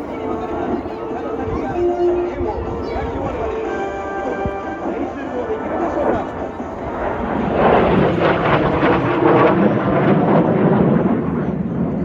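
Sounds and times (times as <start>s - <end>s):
jet aircraft roaring past: 0.0s - 12.0s.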